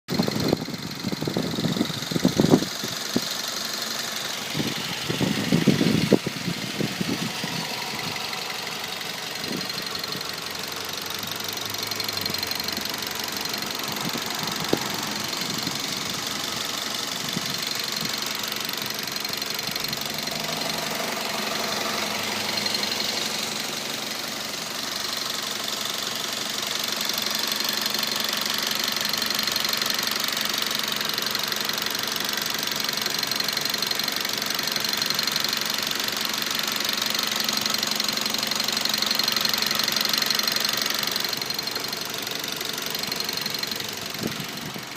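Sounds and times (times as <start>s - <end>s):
car engine knocking: 0.1s - 44.9s.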